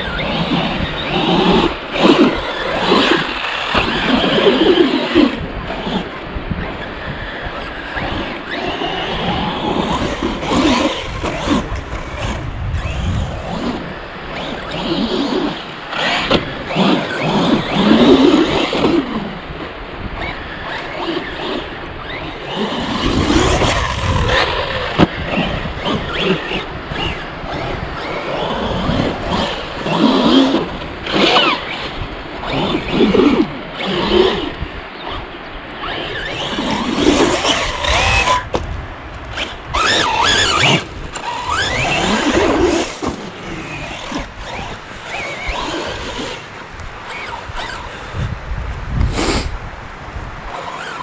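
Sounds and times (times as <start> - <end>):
electric motor whining: 0.0 - 49.6, 50.2 - 51.0
wind rumble on microphone: 0.0 - 51.0.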